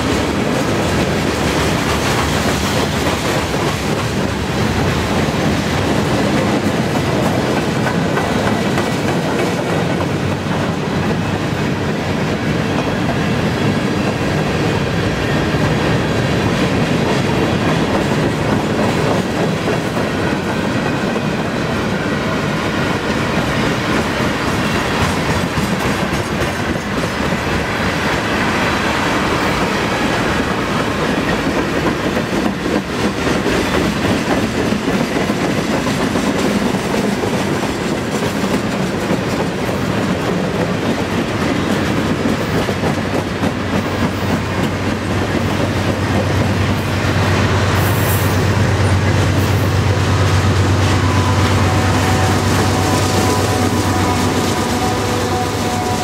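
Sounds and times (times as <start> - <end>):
freight train wheels clickety-clack: 0.0 - 56.0.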